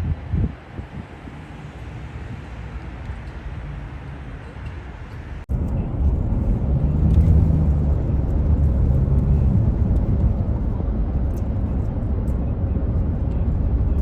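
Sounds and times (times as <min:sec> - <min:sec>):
low rumble of vehicle noise: 0:00.0 - 0:14.0.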